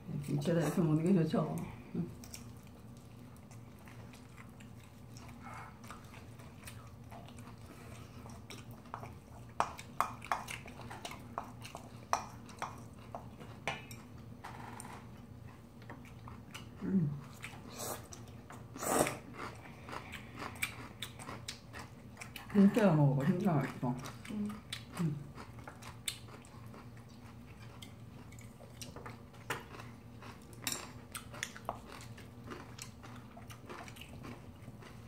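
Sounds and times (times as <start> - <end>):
person chewing: 2.1 - 22.5, 23.7 - 35.0.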